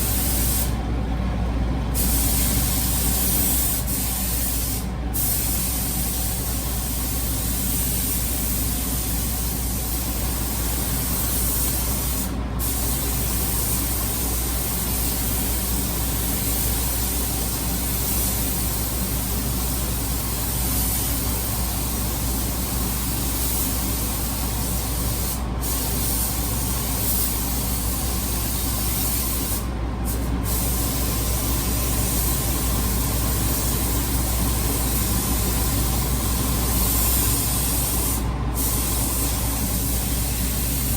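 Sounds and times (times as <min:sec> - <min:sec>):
spray gun hissing: 0:00.0 - 0:00.8, 0:02.0 - 0:40.9.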